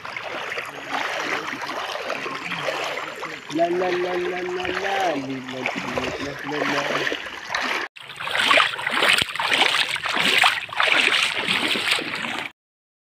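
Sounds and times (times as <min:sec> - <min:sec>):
wading through shallow water: 0:00.0 - 0:12.5.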